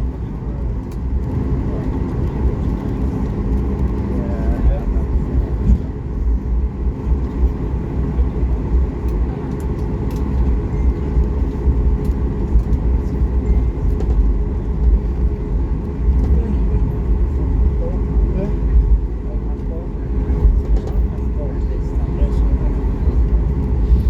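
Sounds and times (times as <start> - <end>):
airplane engines idling: 0.0 - 24.0
wheels rolling on taxiway: 0.0 - 24.0.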